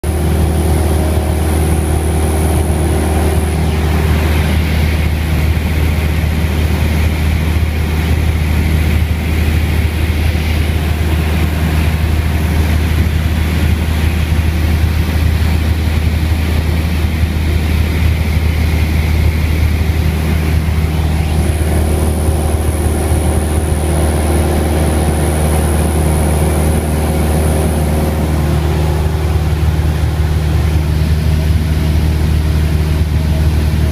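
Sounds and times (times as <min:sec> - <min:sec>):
airplane engine and propeller droning: 0:00.0 - 0:33.9.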